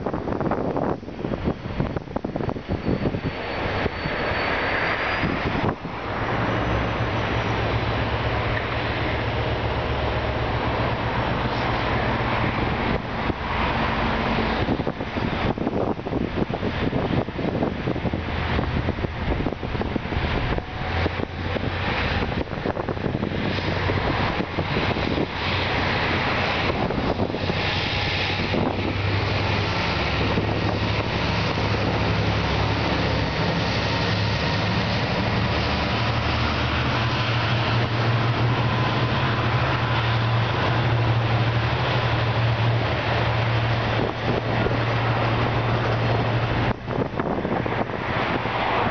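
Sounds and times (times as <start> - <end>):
locomotive engine drone: 0.0 - 48.9
train carriages rumbling on track: 0.0 - 48.9.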